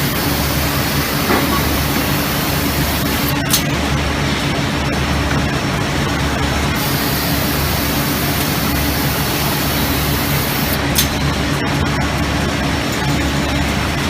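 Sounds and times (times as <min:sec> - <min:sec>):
machinery hum with hiss: 0:00.0 - 0:13.8.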